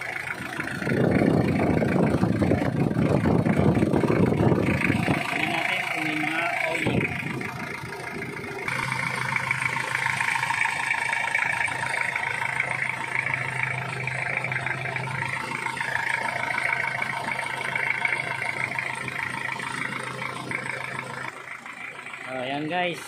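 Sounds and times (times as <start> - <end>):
van engine idling: 0.0 - 23.0.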